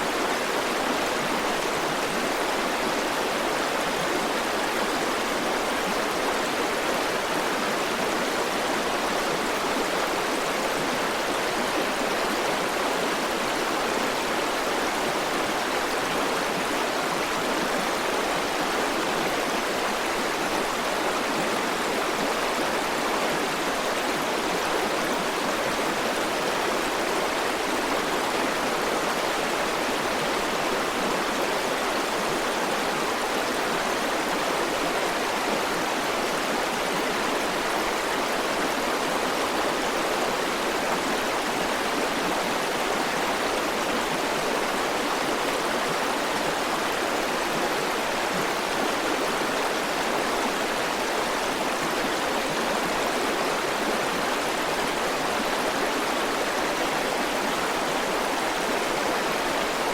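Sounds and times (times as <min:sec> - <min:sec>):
river water rushing over stones: 0:00.0 - 0:59.9.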